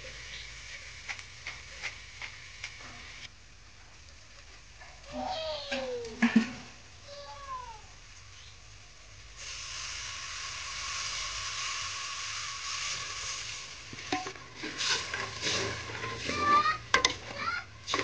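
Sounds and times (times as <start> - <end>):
curry sizzling in a pot: 0.0 - 5.5, 7.9 - 18.0.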